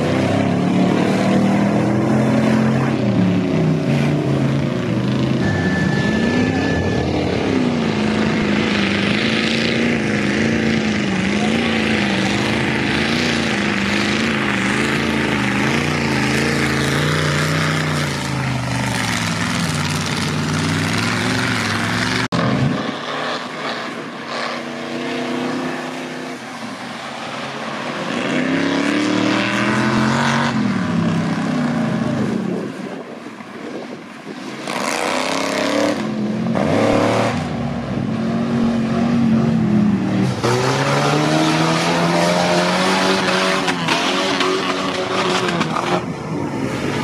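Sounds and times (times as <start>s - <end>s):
truck engines revving in mud: 0.0s - 47.0s.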